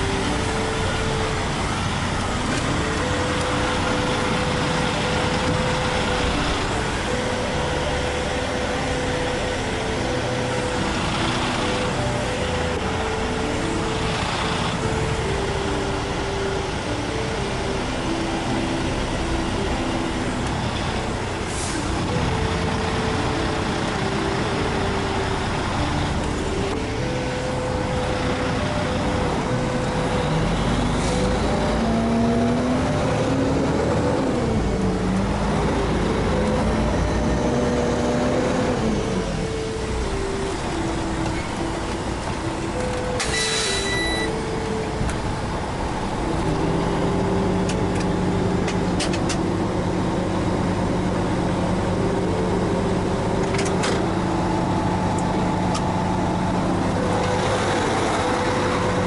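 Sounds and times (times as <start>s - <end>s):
diesel truck engine running: 0.0s - 59.0s
faint tune of held notes: 0.0s - 59.0s.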